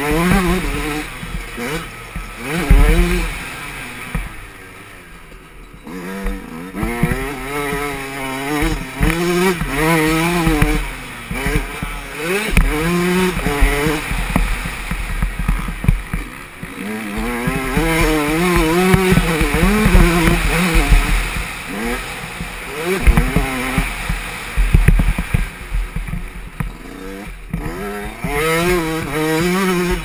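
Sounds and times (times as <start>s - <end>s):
low thumps: 0.0s - 4.6s, 5.2s - 30.0s
motocross bike engine revving: 0.0s - 30.0s.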